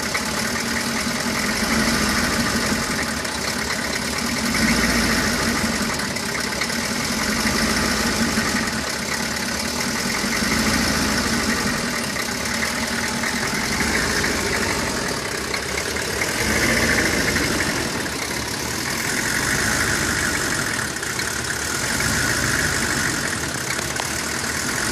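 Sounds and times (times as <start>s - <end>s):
pickup engine idling roughly: 0.0s - 24.9s.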